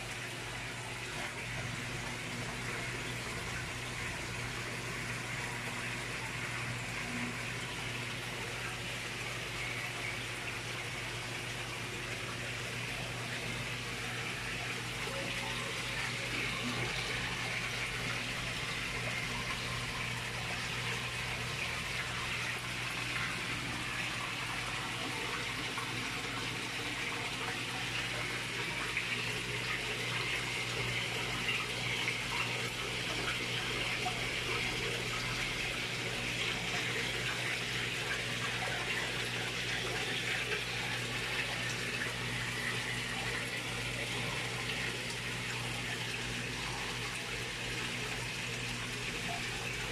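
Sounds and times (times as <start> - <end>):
water running and splashing: 0.0 - 49.9.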